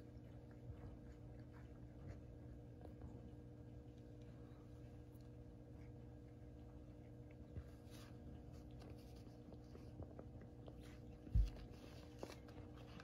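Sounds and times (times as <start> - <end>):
cats' paws rustling on a rug: 0.0 - 13.0.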